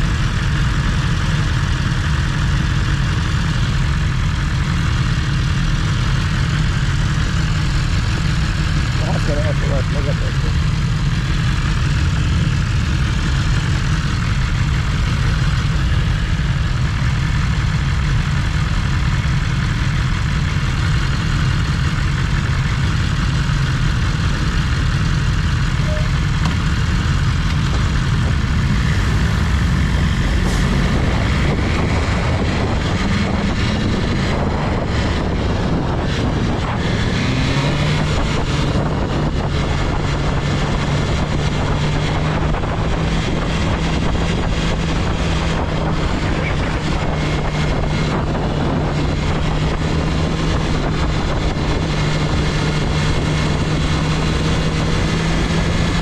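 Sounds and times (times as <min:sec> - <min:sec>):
motorcycle engine running: 0:00.0 - 0:56.0
rushing wind noise: 0:06.0 - 0:56.0.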